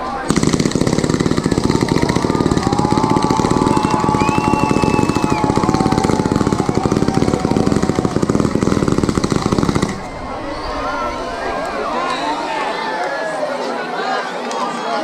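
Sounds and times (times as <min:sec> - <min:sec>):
fireworks cracking: 0:00.0 - 0:12.9.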